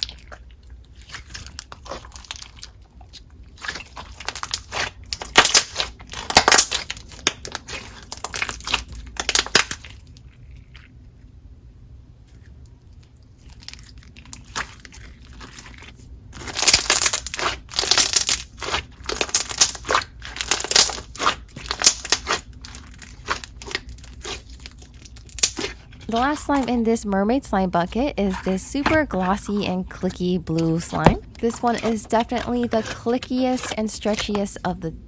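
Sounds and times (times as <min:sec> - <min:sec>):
slime squished by hand: 0:00.0 - 0:11.0, 0:12.3 - 0:26.7, 0:30.6 - 0:34.4.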